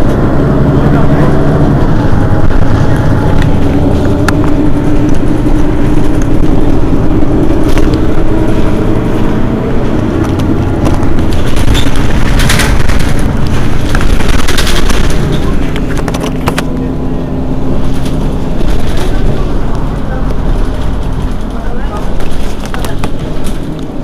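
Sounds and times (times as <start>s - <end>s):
diesel bus engine idling: 0.0s - 24.0s.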